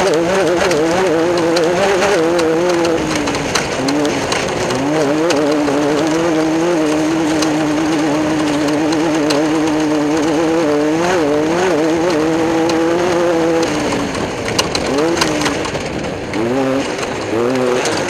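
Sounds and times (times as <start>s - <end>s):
race car engine revving high: 0.0s - 18.0s.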